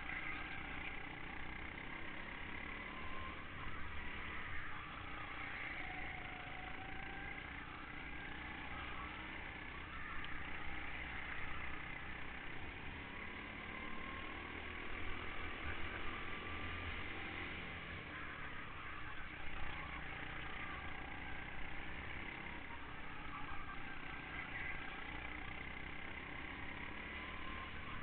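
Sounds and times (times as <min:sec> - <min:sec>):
go-kart engine racing: 0:00.0 - 0:28.0
other kart engines: 0:00.0 - 0:28.0.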